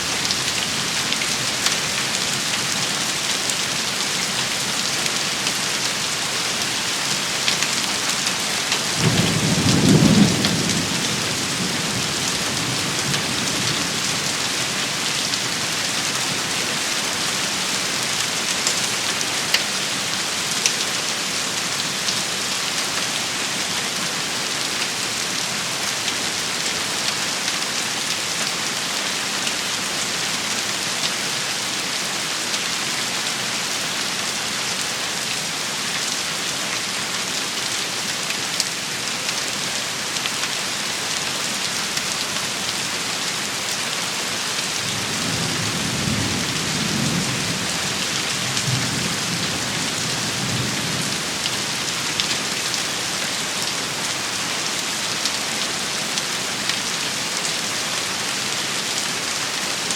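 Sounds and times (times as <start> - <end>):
heavy rain shower: 0.0 - 59.9.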